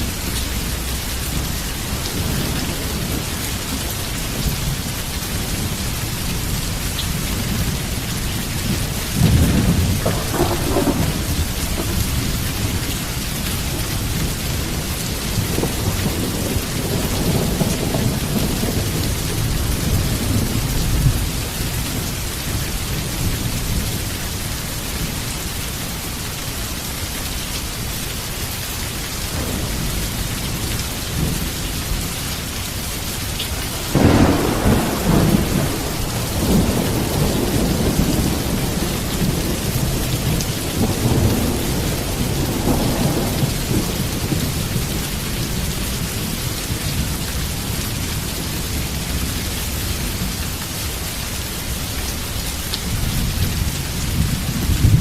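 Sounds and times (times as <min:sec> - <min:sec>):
heavy rain falling: 0:00.0 - 0:55.0
rolling thunder: 0:00.5 - 0:22.2, 0:29.3 - 0:32.5, 0:33.2 - 0:50.3, 0:52.9 - 0:55.0.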